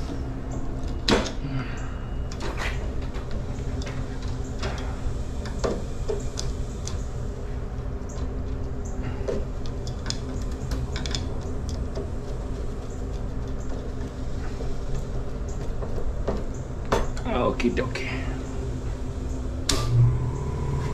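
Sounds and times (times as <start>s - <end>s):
low electrical hum: 0.0s - 20.9s.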